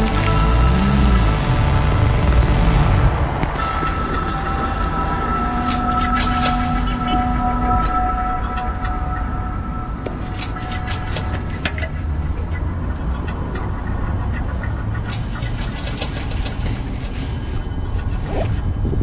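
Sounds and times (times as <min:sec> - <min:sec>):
city street rumble: 0:00.0 - 0:19.0.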